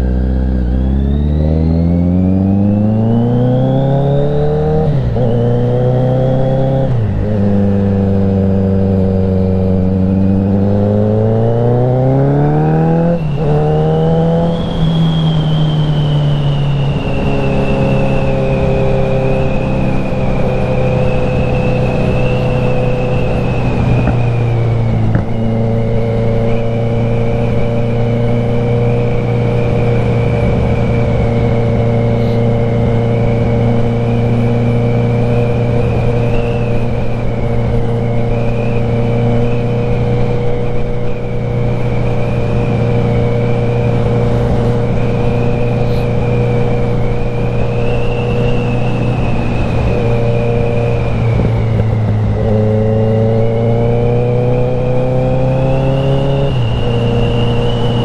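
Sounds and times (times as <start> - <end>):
motorcycle engine running: 4.2 - 58.0.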